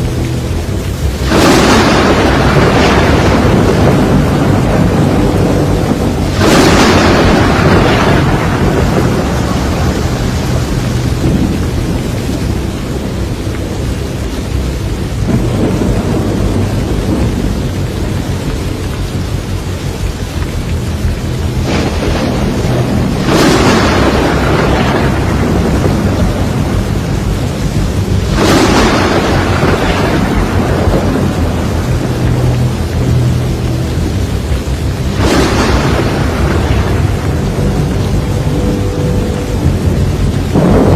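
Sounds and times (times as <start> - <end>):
rain: 0.0 - 40.9
thunder rumbling: 0.0 - 40.9.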